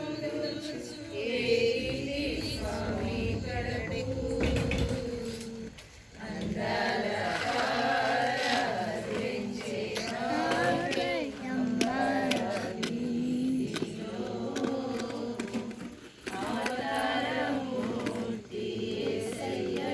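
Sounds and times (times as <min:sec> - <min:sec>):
group of voices singing: 0:00.0 - 0:19.9.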